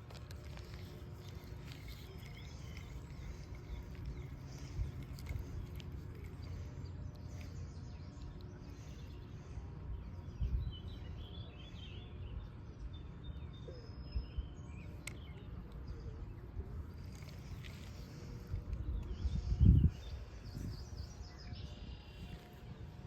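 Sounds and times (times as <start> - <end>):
low rumbling background noise: 0.0 - 23.0
faint bird chirps: 0.5 - 23.0.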